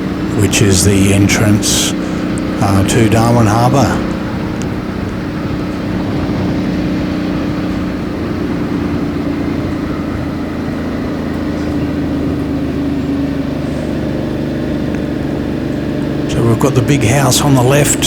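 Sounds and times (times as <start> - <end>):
motorcycle engine cruising: 0.0 - 18.0
road noise: 0.0 - 18.0.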